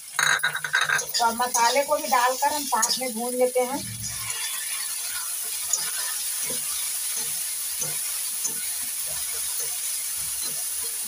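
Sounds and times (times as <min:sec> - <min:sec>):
masala sizzling in oil: 0:00.0 - 0:11.0
metal spatula scraping pan: 0:00.2 - 0:03.2, 0:03.8 - 0:09.8.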